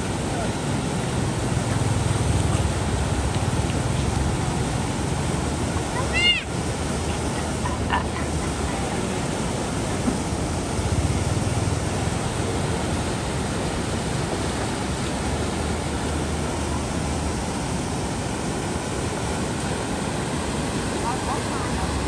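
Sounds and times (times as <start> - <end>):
water rushing from dam sluices: 0.0 - 22.0.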